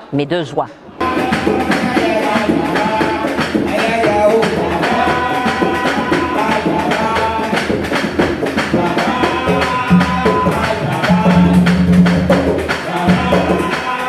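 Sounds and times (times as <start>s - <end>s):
people singing: 0.9s - 14.0s
hand drum rhythm: 1.0s - 14.0s.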